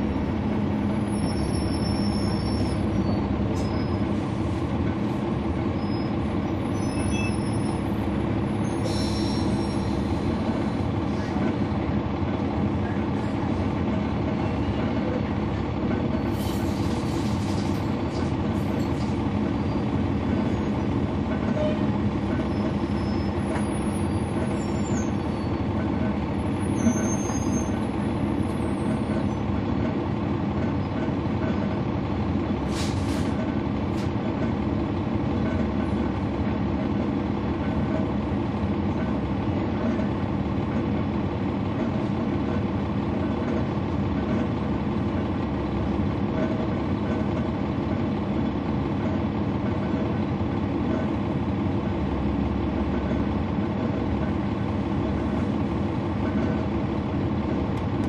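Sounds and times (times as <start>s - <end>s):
bus diesel engine droning: 0.0s - 58.0s.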